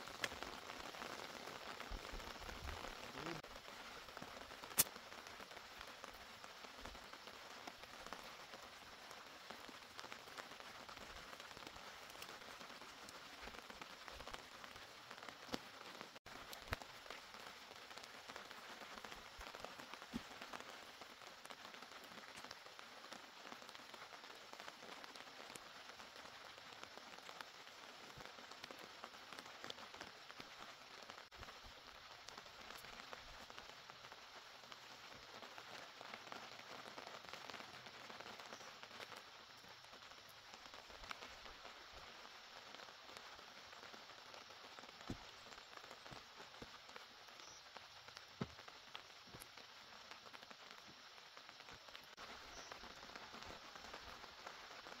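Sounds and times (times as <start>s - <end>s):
rain falling on vegetation: 0.0s - 55.0s.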